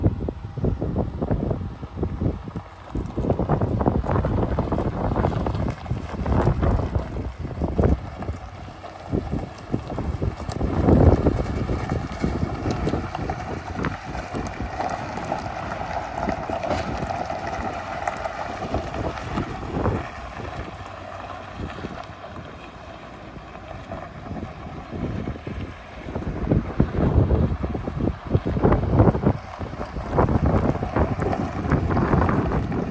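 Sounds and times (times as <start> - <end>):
pickup engine running: 0.0 - 32.9
wind gusting on microphone: 0.0 - 32.9.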